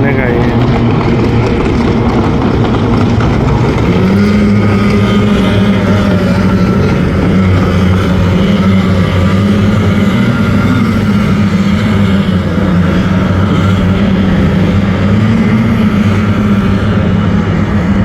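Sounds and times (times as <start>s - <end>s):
motorboat engines droning: 0.0s - 18.0s.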